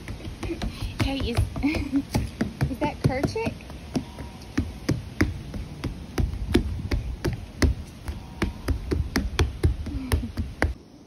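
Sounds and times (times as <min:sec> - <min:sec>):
footsteps on wooden planks: 0:00.0 - 0:10.8.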